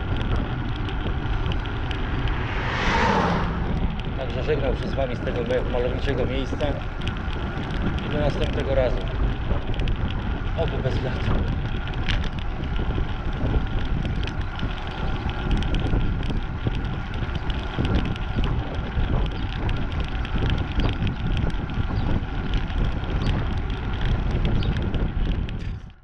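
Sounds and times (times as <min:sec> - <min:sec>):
bicycle clicks and rattles: 0:00.0 - 0:01.9, 0:04.9 - 0:26.0
wind buffeting microphone: 0:00.0 - 0:26.0.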